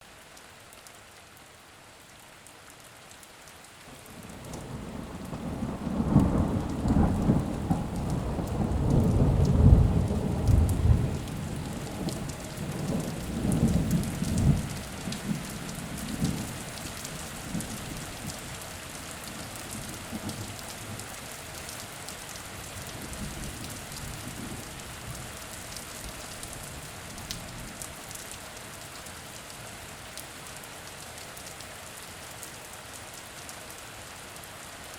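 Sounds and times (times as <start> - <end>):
rain pattering: 0.0 - 34.9.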